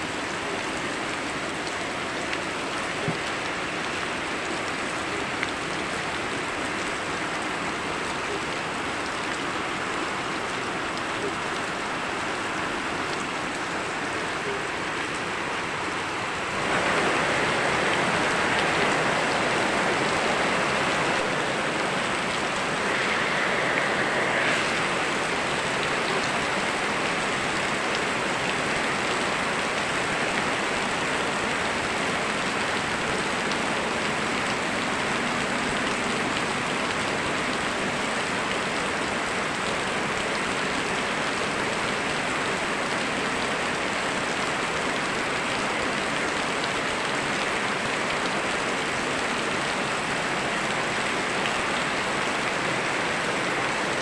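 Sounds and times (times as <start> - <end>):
running river water: 0.0 - 54.0
steady rain falling: 0.0 - 54.0.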